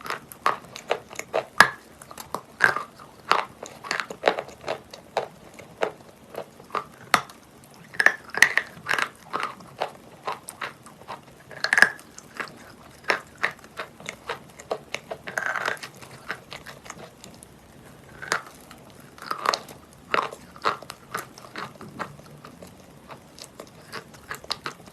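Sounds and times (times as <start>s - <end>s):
chalk crunching while chewed: 0.0s - 24.9s.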